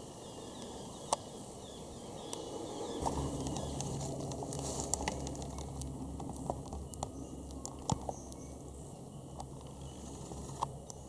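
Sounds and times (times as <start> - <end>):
aircraft drone overhead: 0.0 - 11.0.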